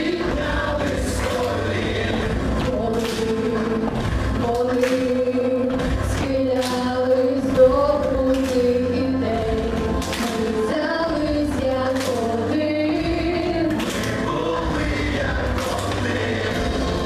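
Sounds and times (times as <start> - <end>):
girls singing into microphones: 0.0 - 17.0.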